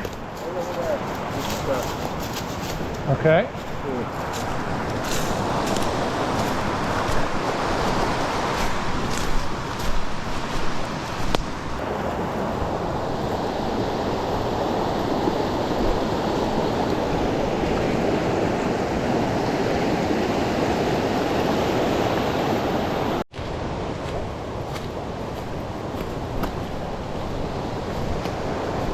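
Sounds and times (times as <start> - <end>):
creek water rushing: 0.0 - 28.9.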